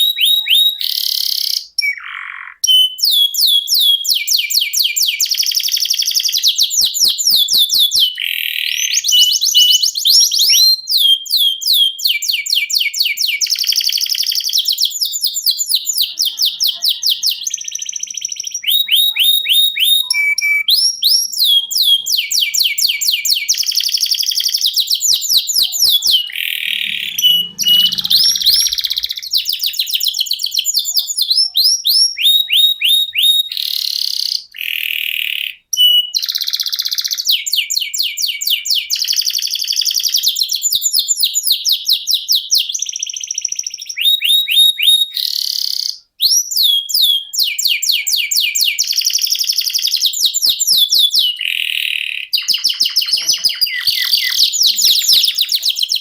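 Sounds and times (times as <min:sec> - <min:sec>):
canary singing trills: 0:00.0 - 0:41.4, 0:42.6 - 0:56.0.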